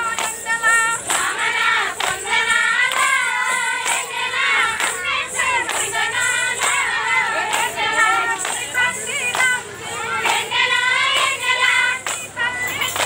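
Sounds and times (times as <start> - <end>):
sharp rhythmic strikes: 0.0 - 13.0
women singing a folk song together: 0.0 - 13.0.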